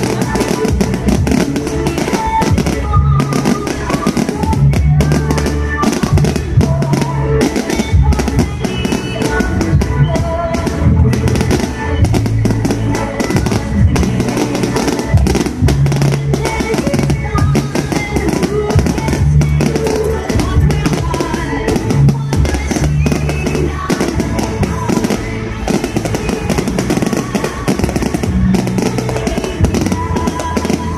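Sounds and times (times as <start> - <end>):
fireworks crackling and banging: 0.0 - 30.9
loud drum and bass music: 0.0 - 30.9.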